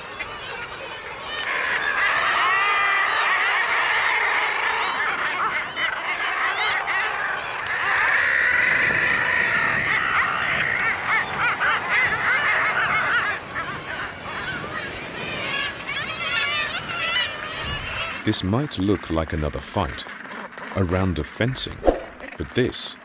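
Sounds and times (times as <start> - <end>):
seabird colony calling: 0.0 - 23.0.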